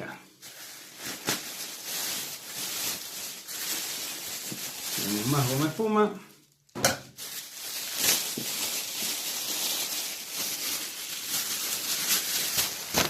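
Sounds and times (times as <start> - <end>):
packing foam and plastic rustling: 0.0 - 13.0.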